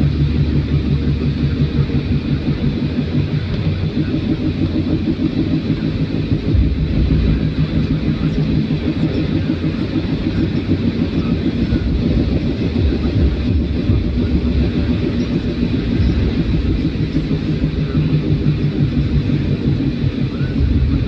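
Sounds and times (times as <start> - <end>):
vehicle driving on highway: 0.0 - 21.0.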